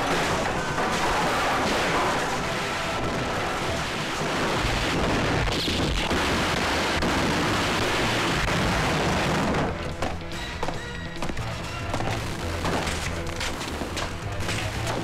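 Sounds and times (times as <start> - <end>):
explosions with debris rumble: 0.0 - 10.2, 11.2 - 15.0.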